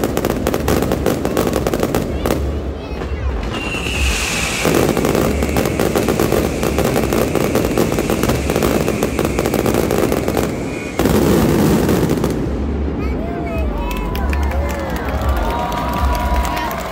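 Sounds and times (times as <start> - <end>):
fireworks bangs and crackle: 0.0 - 16.9.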